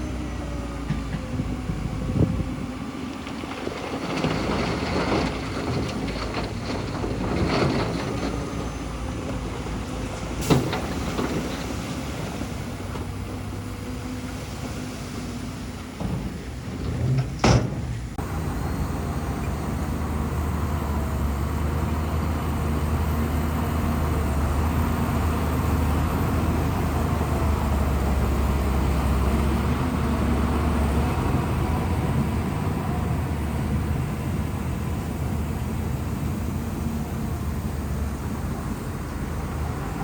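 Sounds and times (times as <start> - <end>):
bulldozer diesel engine drone: 0.0 - 40.0.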